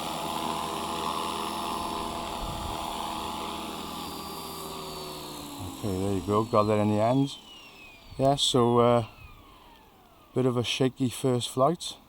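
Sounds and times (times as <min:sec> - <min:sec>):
electric motor whine: 0:00.0 - 0:11.5
rotor blades humming: 0:00.0 - 0:12.0.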